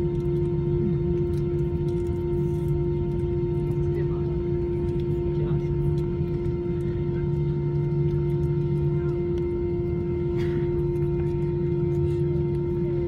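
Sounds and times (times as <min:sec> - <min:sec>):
jet engines humming in cabin: 0:00.0 - 0:13.0.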